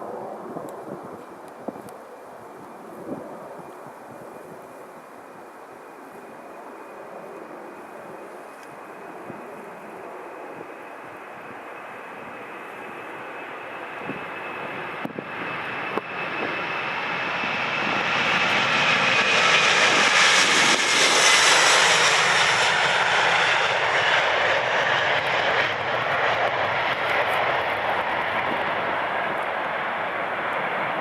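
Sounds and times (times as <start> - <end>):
jet engine whine: 0.0 - 31.0
jet engines roaring: 6.0 - 31.0.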